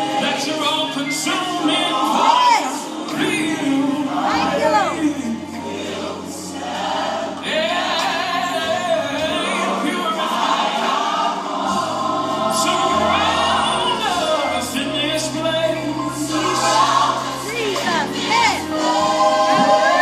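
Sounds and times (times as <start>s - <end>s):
gospel choir singing: 0.0s - 20.0s
instrumental backing: 0.0s - 20.0s.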